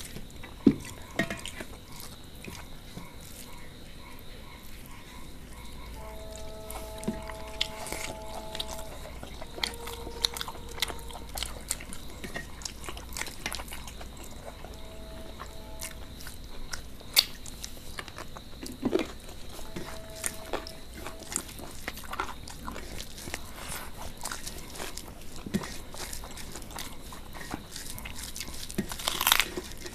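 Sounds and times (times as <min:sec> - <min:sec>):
person chewing food: 0:00.0 - 0:29.9.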